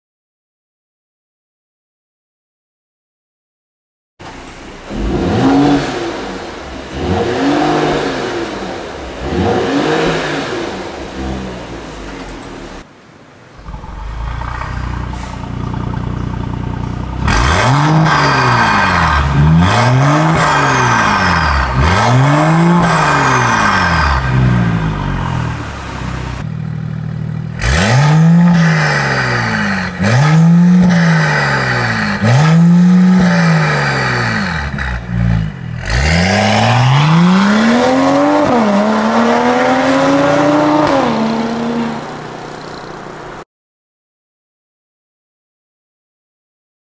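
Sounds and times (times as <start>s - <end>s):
car engine idling and revving: 4.2s - 43.4s.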